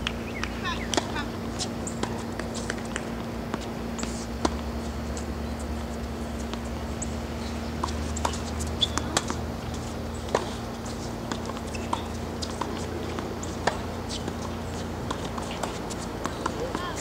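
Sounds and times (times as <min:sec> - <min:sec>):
low hum: 0:00.0 - 0:17.0
tennis balls struck by rackets: 0:00.0 - 0:17.0.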